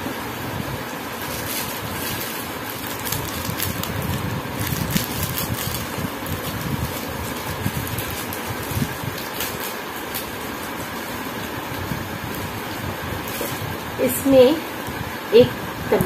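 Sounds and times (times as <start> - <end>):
steady background noise: 0.0 - 16.0
plastic packaging crinkling: 1.0 - 13.9.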